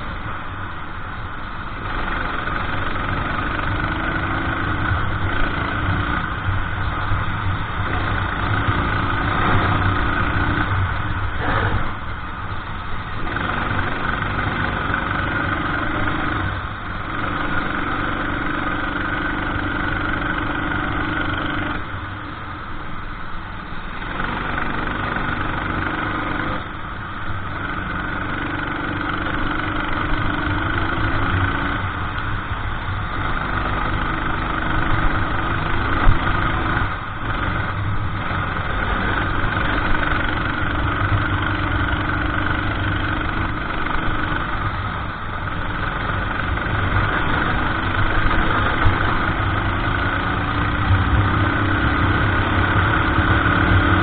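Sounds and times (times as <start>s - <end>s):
racing kart engine revving: 1.8s - 12.2s, 13.0s - 22.0s, 23.9s - 26.8s, 27.4s - 54.0s.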